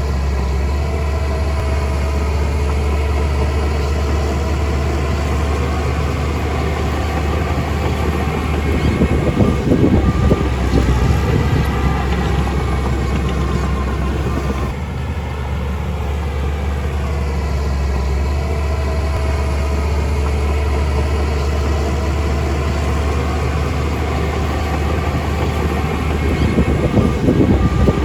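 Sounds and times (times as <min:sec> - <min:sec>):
heavy machinery diesel engine hum: 0:00.0 - 0:28.0.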